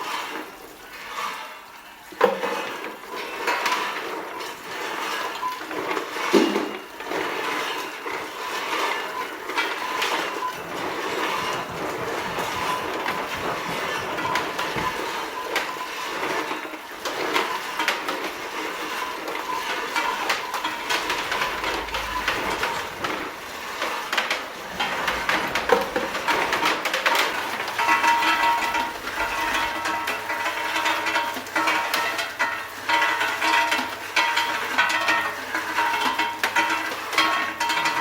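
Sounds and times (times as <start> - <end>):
sorting machine running: 0.0 - 38.0
nuts clattering through machine: 2.2 - 38.0.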